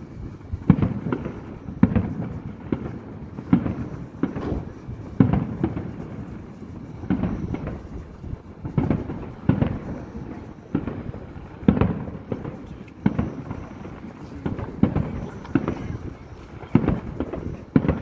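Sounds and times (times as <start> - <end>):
firework shells booming: 0.0 - 18.0.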